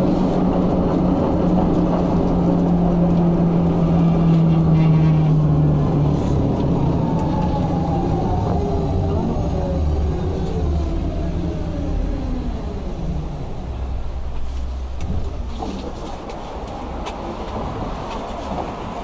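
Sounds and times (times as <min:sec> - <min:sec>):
tram motor whine gliding down: 0:00.0 - 0:15.4
low rumble: 0:00.0 - 0:17.9
wheels clicking on rails: 0:00.0 - 0:19.0.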